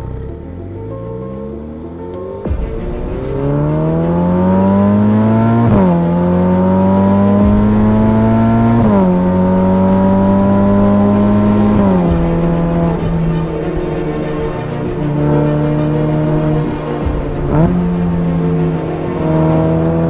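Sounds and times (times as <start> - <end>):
car engine accelerating through gears: 0.0 - 20.0.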